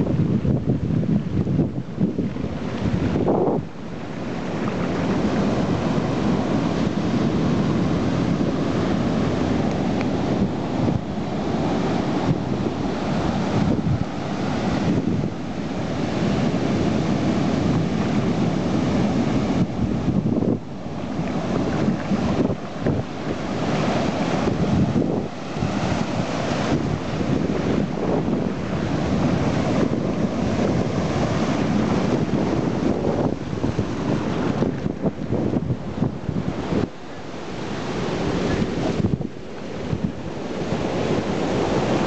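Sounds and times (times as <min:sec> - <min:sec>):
ocean surf breaking: 0:00.0 - 0:42.0
wind buffeting microphone: 0:00.0 - 0:42.0.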